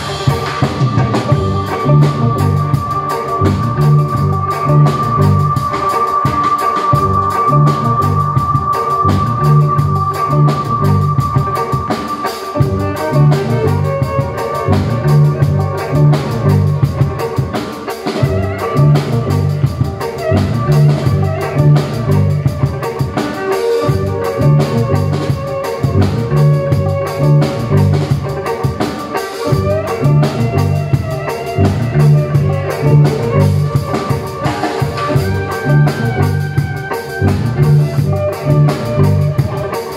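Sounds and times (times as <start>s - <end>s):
amplified violin: 0.0s - 39.9s
drum kit playing a steady beat: 0.0s - 39.9s.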